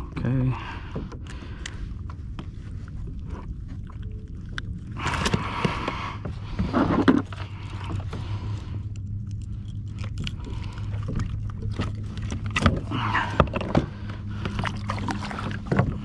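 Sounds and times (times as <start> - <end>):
steady low hum: 0.0 - 16.0
knocks and scrapes handling fish: 0.8 - 16.0.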